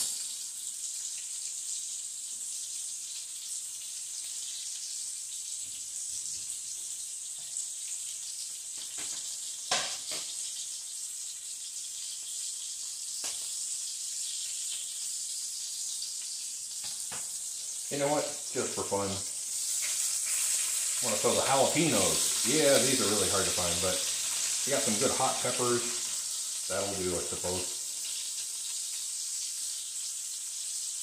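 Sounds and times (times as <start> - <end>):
burger patties sizzling: 0.0 - 31.0.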